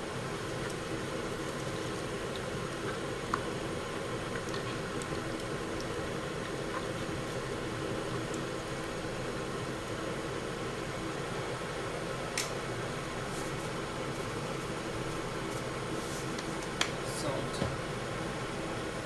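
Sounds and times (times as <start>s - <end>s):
extractor fan running: 0.0s - 19.0s.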